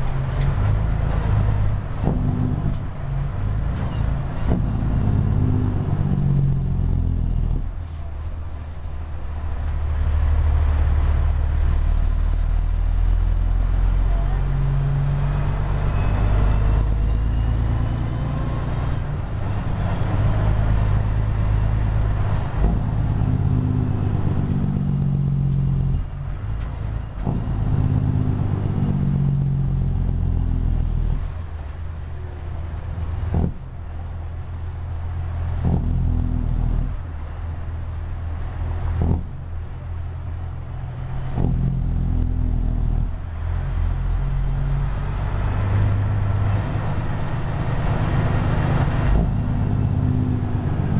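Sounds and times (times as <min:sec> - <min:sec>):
diesel truck engine pulling: 0:00.0 - 0:50.9.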